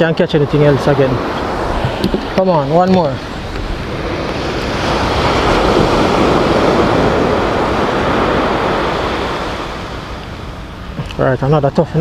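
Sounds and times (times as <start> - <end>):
surf rushing up beach: 0.0 - 12.0.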